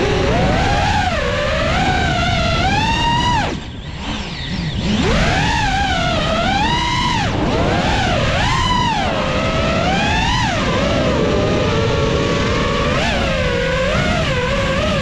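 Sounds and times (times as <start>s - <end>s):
drone motors whining: 0.0s - 15.0s
wind noise: 0.0s - 15.0s.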